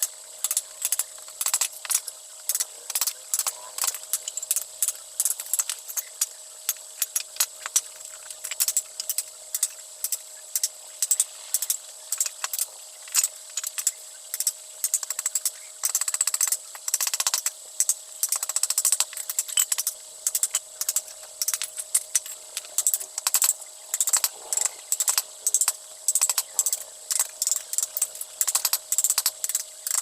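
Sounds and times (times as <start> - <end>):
faint steady whine: 0.0 - 30.0
tools tapping on wood: 0.4 - 30.0.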